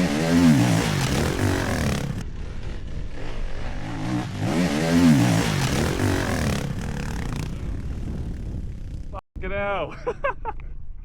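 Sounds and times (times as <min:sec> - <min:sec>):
dirt bike engine revving: 0:00.0 - 0:09.0.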